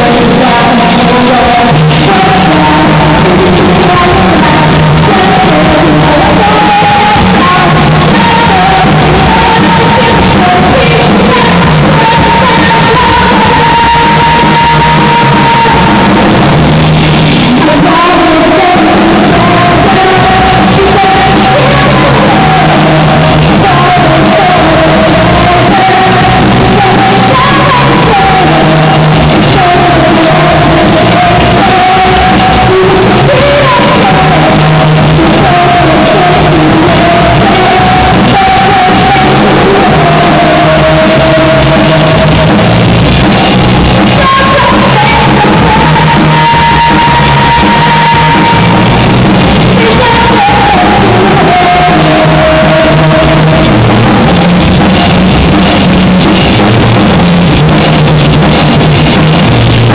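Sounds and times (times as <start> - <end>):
woman singing into microphone: 0.0 - 59.9.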